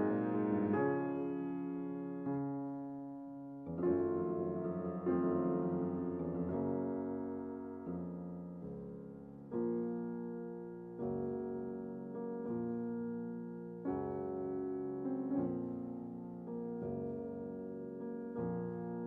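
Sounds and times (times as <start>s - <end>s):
soft piano chords: 0.0s - 19.0s.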